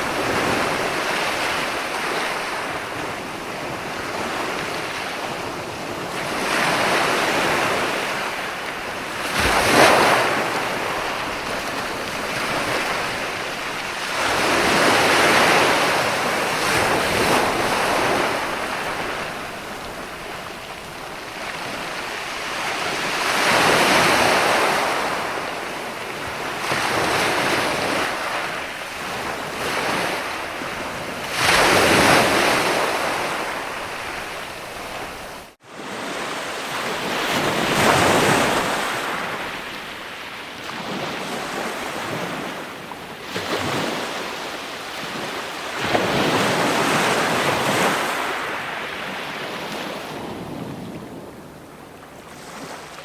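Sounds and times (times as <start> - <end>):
ocean waves breaking: 0.0 - 53.0.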